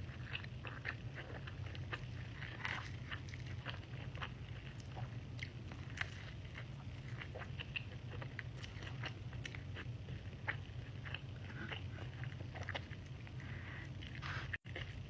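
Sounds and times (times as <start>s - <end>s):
chewing with wet mouth smacks: 0.0s - 15.0s
low hum: 0.0s - 15.0s.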